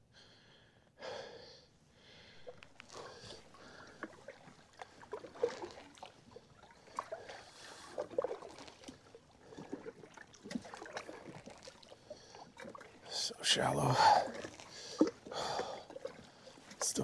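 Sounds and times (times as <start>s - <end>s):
paddle splashes and knocks: 2.4s - 13.2s, 14.0s - 16.9s.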